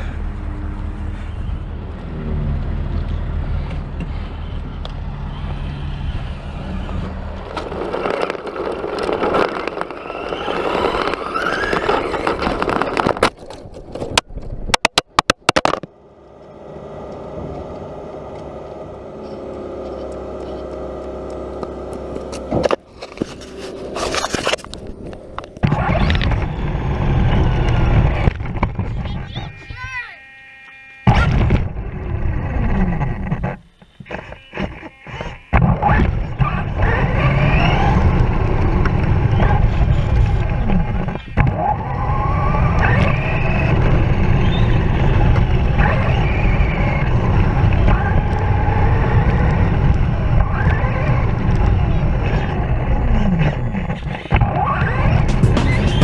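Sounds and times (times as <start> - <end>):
tyres scraping over rough ground: 2.0 - 16.0, 17.0 - 29.6, 31.1 - 56.0
electric motor whining: 3.9 - 13.3, 16.4 - 56.0.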